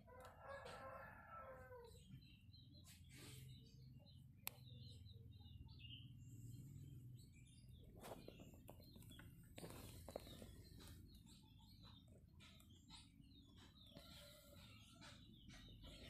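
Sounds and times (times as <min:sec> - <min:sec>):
distant bird chirps: 0:00.0 - 0:16.0.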